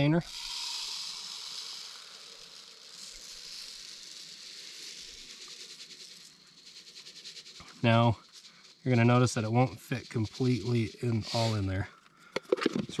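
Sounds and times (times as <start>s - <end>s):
grains trickling into container: 0.0s - 12.0s.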